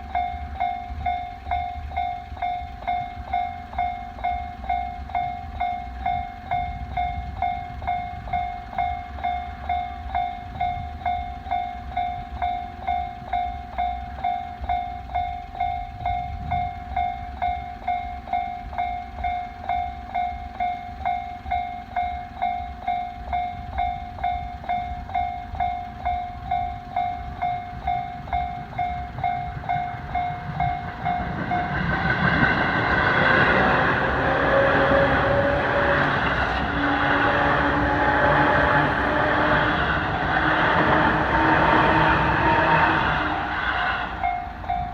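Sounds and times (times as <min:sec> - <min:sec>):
level crossing alarm dinging: 0:00.0 - 0:43.6, 0:44.2 - 0:44.9
electric train rumble: 0:00.0 - 0:44.9.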